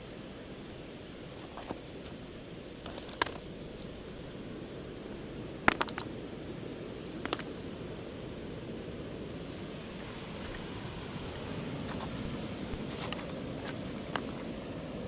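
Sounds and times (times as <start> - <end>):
sea waves: 0.0 - 15.0
wind: 0.0 - 15.0.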